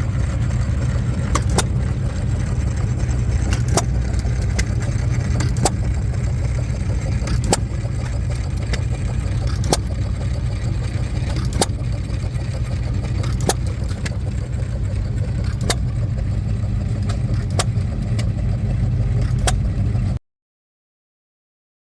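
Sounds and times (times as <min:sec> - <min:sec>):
engine low rumble: 0:00.0 - 0:20.2
engine sharp bangs: 0:00.0 - 0:20.2
faint engine ticks: 0:00.0 - 0:20.2.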